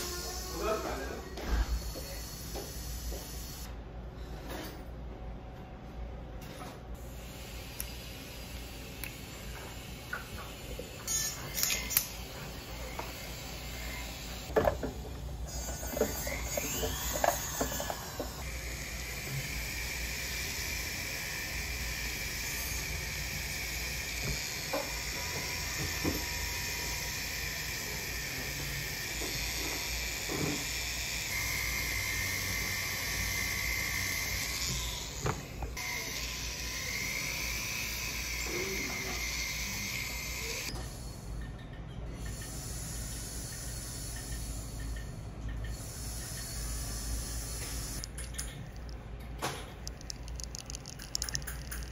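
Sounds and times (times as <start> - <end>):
rotary tool whining: 0.0 - 3.7, 9.4 - 41.4, 42.1 - 49.0.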